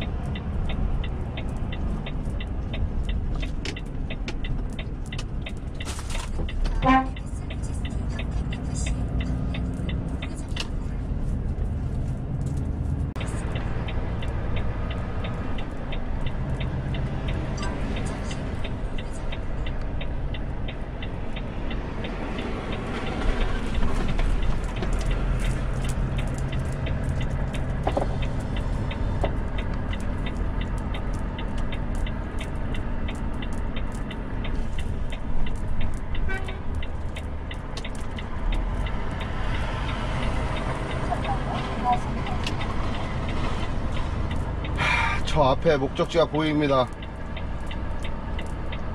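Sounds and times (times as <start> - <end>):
diesel truck engine running: 0.0 - 48.9
even ticking: 0.0 - 48.9.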